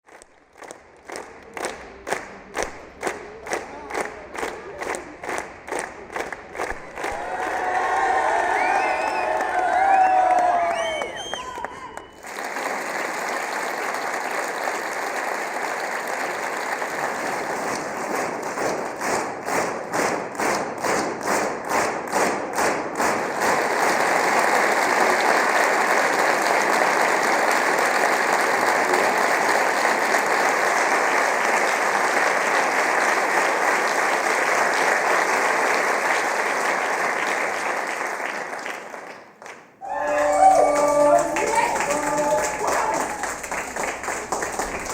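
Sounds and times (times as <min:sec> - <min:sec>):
rhythmic unison clapping: 0:00.0 - 0:44.9
audience applauding: 0:00.1 - 0:44.9.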